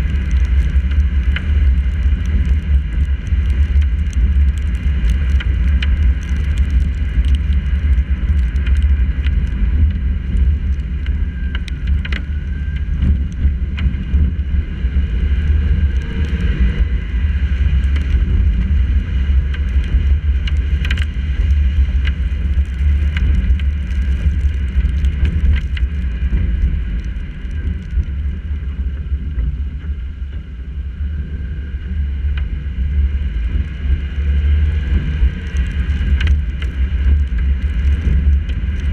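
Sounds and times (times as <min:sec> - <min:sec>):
raindrops ticking on camera: 0:00.0 - 0:38.9
wind buffeting and road noise: 0:00.0 - 0:38.9.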